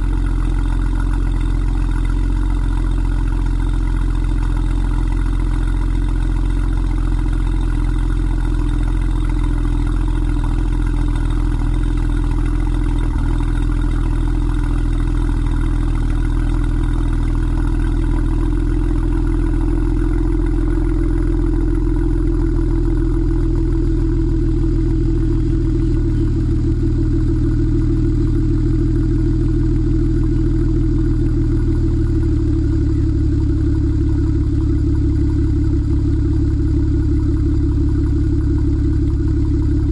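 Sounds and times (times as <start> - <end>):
car exhaust idling: 0.0 - 39.9.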